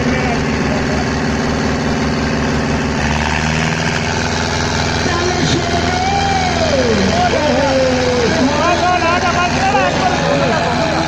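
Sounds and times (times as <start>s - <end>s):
tractor diesel engine running: 0.0s - 11.0s
voices calling out: 0.0s - 11.0s.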